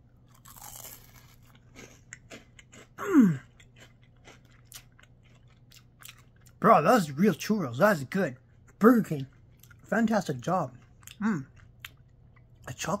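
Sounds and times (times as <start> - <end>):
crunchy food chewing: 0.2 - 6.6, 7.4 - 12.8.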